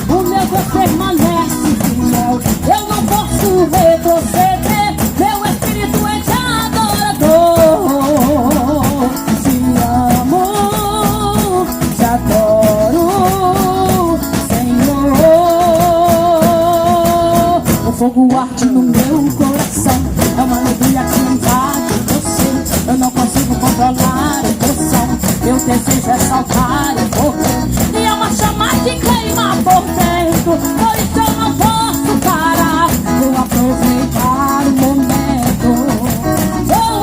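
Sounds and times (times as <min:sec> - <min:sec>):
upbeat band instrumental: 0:00.0 - 0:37.0.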